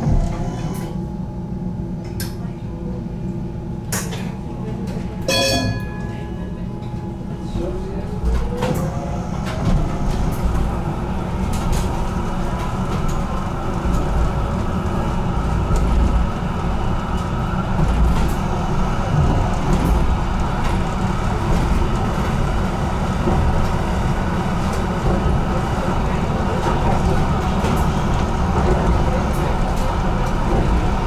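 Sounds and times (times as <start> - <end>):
tram wheels rumbling on rails: 0.0 - 31.0
rail clicks: 3.8 - 31.0.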